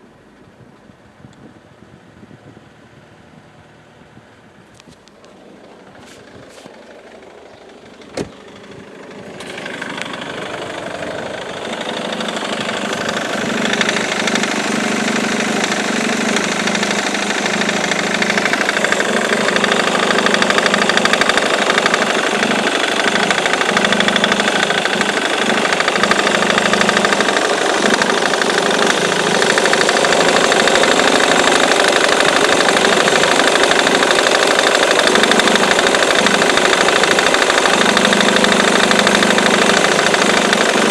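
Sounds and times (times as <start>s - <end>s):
diesel engine idling: 2.6s - 40.9s.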